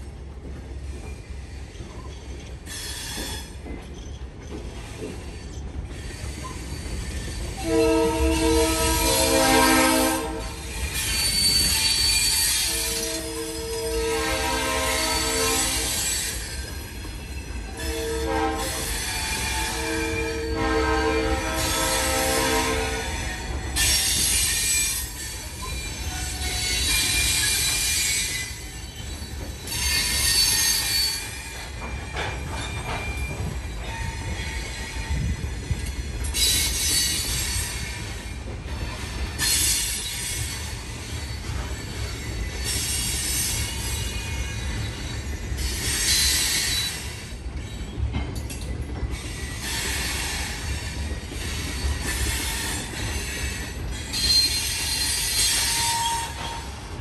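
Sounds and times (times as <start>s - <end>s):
freight train rumbling past: 0.0s - 57.0s
train wheel squeals: 0.6s - 57.0s.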